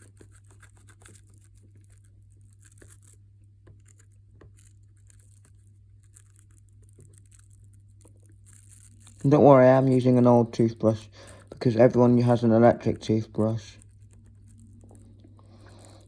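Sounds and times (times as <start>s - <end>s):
toothbrush bristles scratching: 0.0s - 16.0s.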